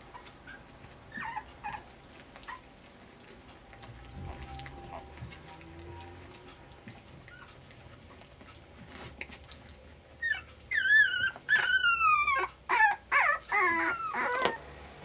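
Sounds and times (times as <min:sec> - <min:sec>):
puppy whining: 0:00.0 - 0:14.8.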